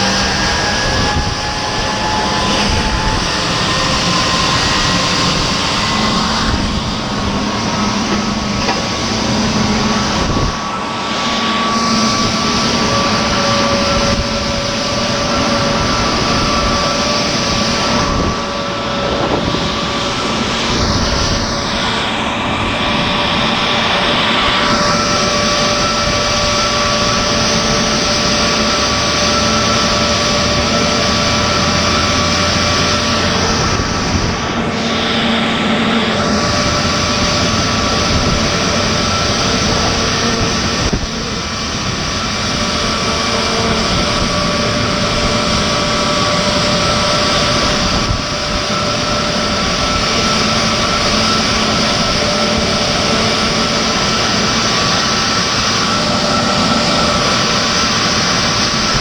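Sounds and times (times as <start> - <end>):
jet airliner rushing noise: 0.0 - 59.0
jet engine whining tones: 0.0 - 59.0.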